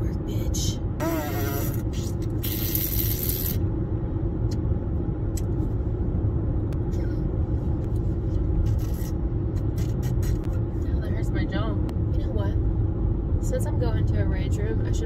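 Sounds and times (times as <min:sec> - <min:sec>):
car road noise in cabin: 0:00.0 - 0:15.0.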